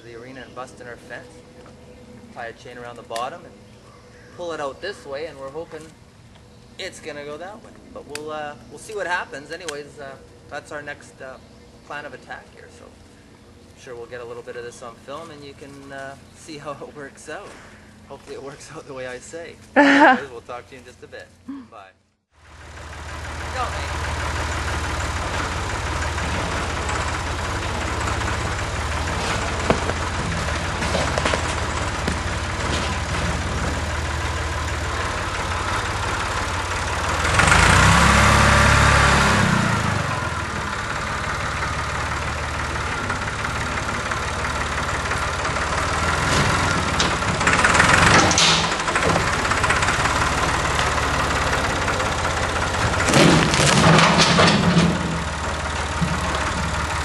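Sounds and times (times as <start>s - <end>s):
tractor engine running: 0.0s - 21.4s, 22.4s - 57.0s.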